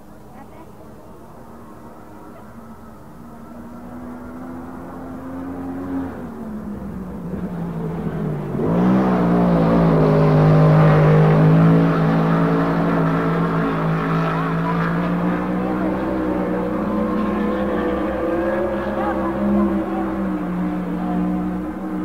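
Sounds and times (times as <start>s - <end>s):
racing car engine at high revs: 1.4s - 22.0s.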